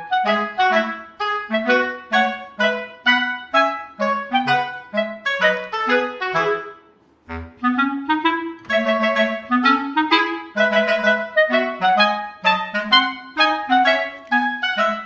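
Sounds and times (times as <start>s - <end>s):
lively woodwind melody: 0.0s - 15.0s.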